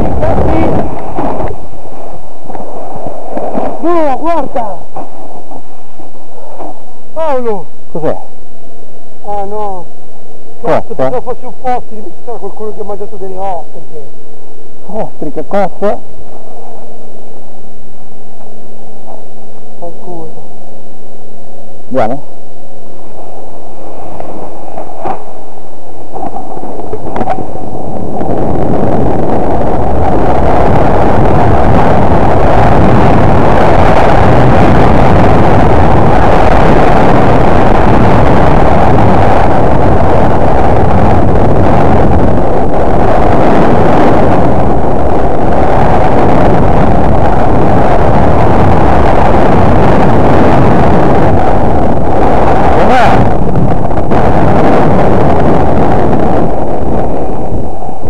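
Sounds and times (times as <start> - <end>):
wind buffeting on microphone: 0.0 - 58.0.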